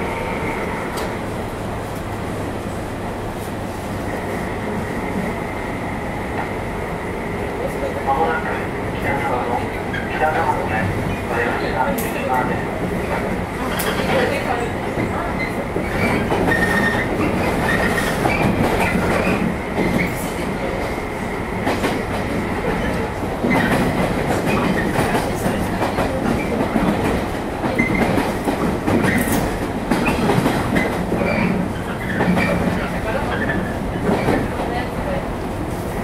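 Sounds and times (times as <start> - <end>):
rail joint clickety-clack: 0.0 - 36.0
train wheels rumbling on rails: 0.0 - 36.0.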